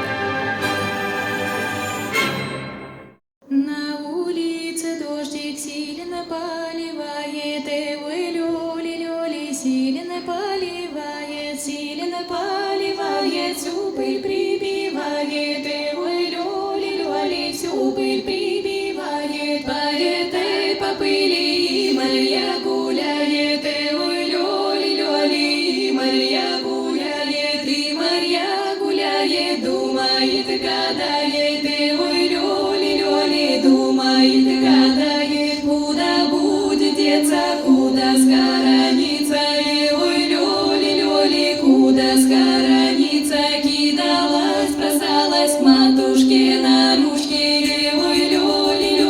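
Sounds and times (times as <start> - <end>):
women singing a cappella: 3.4 - 49.0.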